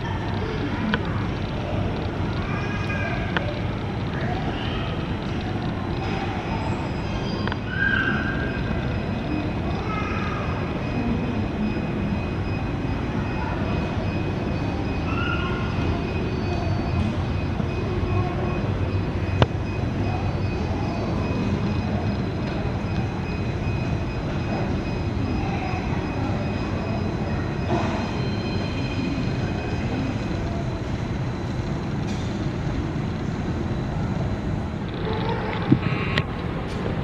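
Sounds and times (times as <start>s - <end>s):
jet engines rumbling with whine: 0.0s - 37.0s.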